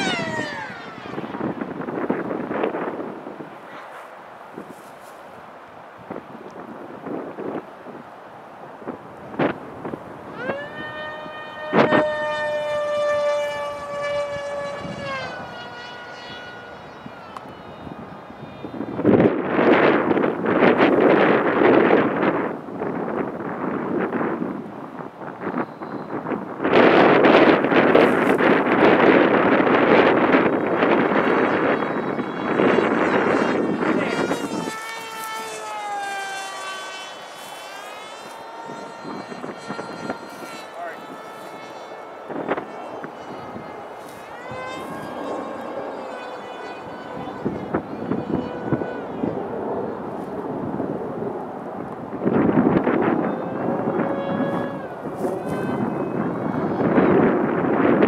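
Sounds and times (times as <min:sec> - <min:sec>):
electric motor high-pitched whine: 0:00.0 - 0:08.1, 0:08.8 - 0:58.0
wind buffeting microphone: 0:00.0 - 0:58.0.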